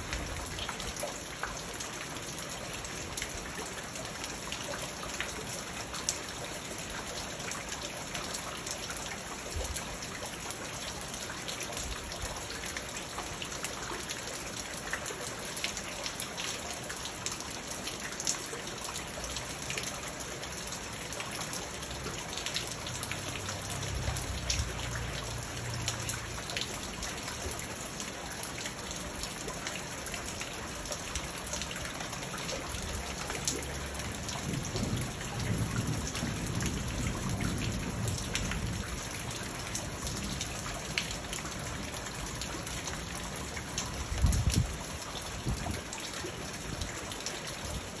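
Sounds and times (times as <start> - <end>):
rain pattering on pond water: 0.0 - 48.0.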